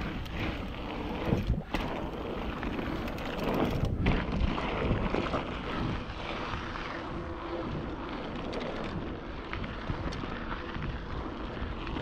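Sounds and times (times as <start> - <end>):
bike clicks and rattles: 0.0 - 12.0
bike tyre rumble: 0.0 - 12.0
wind rushing over microphone: 0.0 - 12.0.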